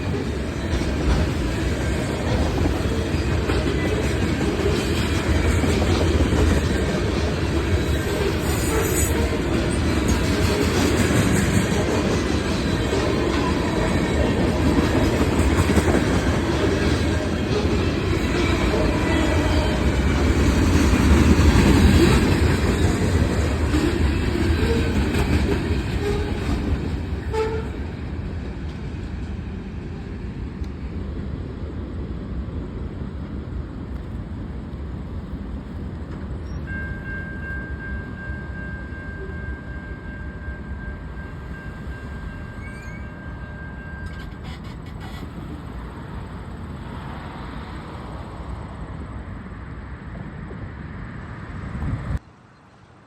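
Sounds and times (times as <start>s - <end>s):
train rumbling past: 0.0s - 53.0s.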